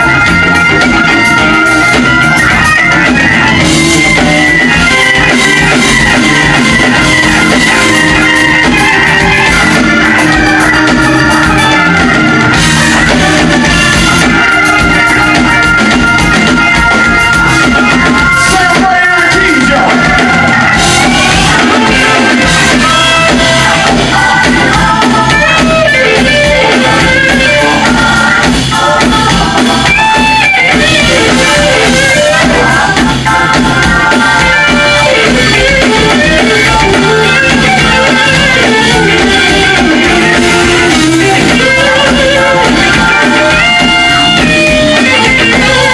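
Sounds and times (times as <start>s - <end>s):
drums: 0.0s - 45.9s
electric guitar: 0.0s - 45.9s
live blues band playing: 0.0s - 45.9s
organ: 0.0s - 45.9s.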